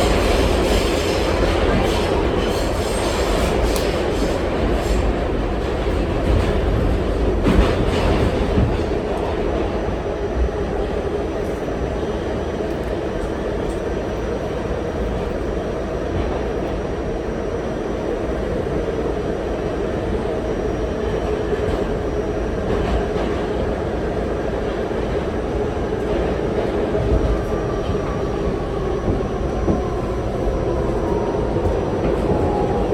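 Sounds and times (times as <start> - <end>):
subway train wheels rumbling on rails: 0.0 - 32.9.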